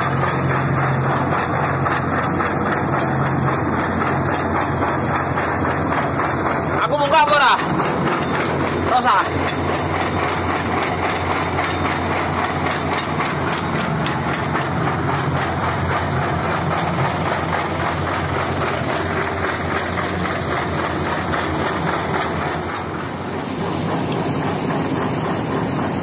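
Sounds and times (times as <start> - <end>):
heavy diesel engine clattering: 0.0 - 26.0.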